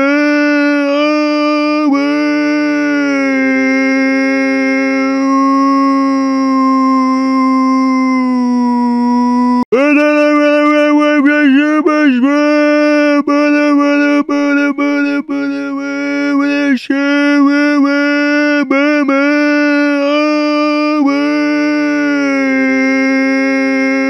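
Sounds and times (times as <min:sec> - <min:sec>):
loud high-pitched scream: 0:00.0 - 0:13.7, 0:15.6 - 0:24.0.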